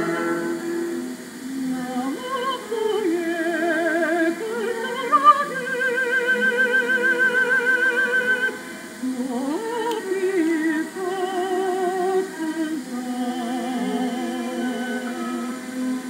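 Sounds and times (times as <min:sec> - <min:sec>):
operatic solo singing: 0:00.0 - 0:16.0.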